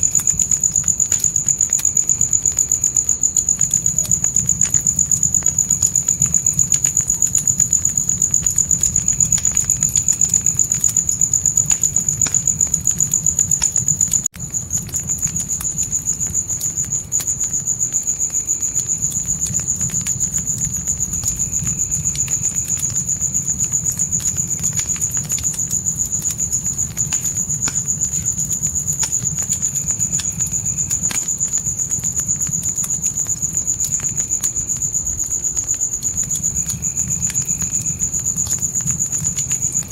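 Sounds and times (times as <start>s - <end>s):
burning wood crackling: 0.0s - 39.9s
campfire rumble: 0.0s - 39.9s
crickets chirping: 0.0s - 39.9s.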